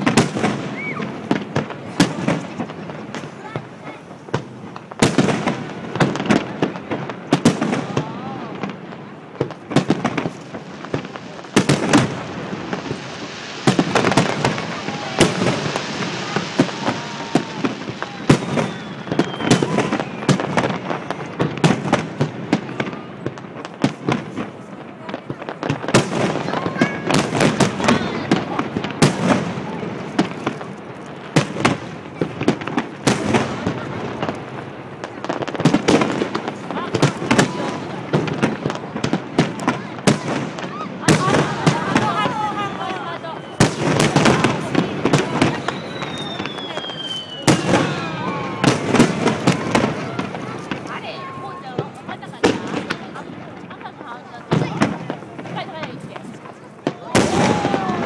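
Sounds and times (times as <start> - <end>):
fireworks bursts and crackling: 0.0 - 58.0.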